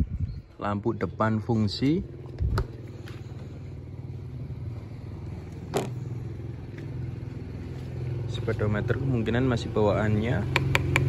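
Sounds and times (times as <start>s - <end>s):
scooter engine idling: 1.0s - 11.0s.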